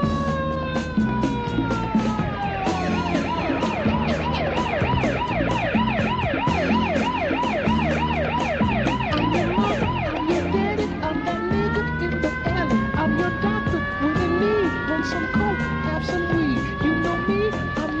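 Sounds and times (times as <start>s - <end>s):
fire engine siren: 0.0s - 18.0s
funk groove with percussion and bass: 0.0s - 18.0s.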